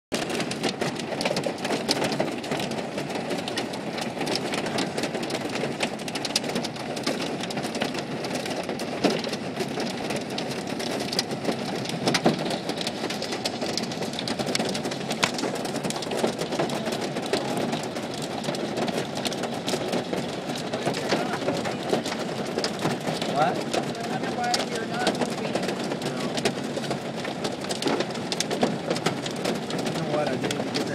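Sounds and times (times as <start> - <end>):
rain and hail on car roof: 0.1 - 30.9.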